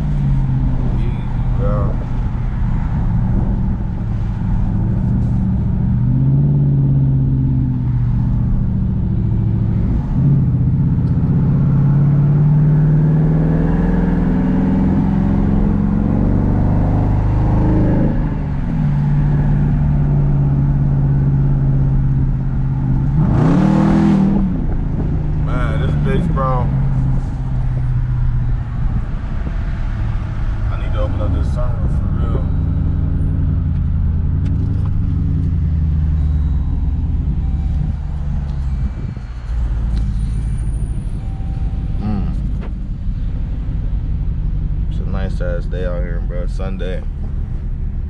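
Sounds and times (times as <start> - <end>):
vehicle exhaust note: 0.0 - 46.6.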